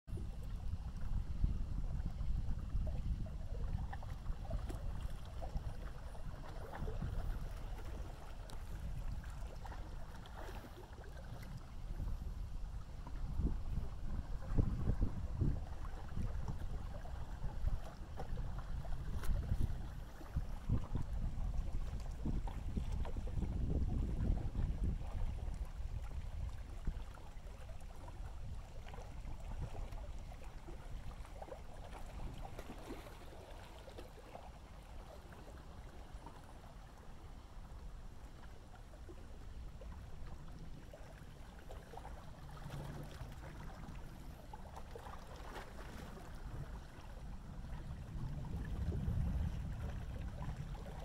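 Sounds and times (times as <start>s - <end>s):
faint water lapping: 0.1s - 51.0s.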